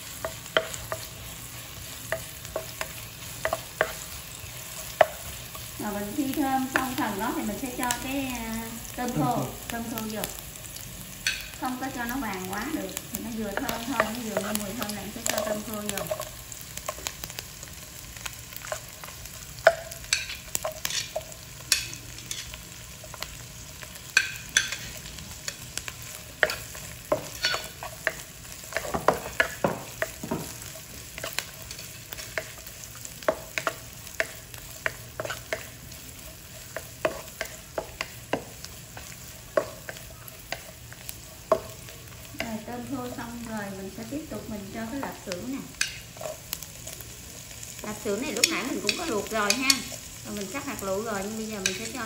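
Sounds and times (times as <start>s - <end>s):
food sizzling in oil: 0.0s - 52.0s.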